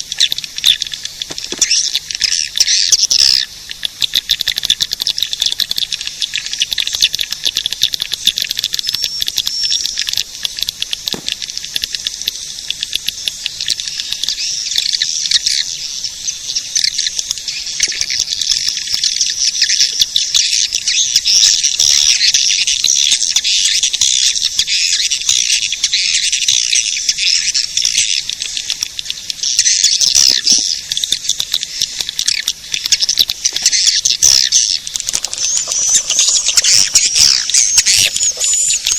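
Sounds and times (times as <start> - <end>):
swiftlets twittering chorus: 0.0 - 38.9.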